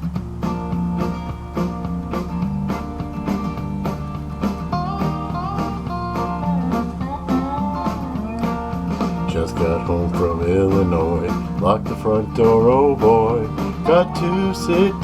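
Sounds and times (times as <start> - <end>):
guitars playing a bouncy riff: 0.0 - 15.0
steady drum beat: 0.0 - 15.0.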